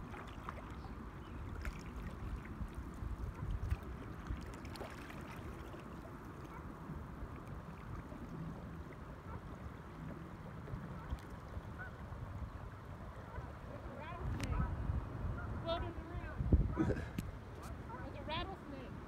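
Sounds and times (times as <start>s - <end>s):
wind on microphone: 0.0s - 9.5s, 10.1s - 19.0s
river water lapping: 0.0s - 19.0s.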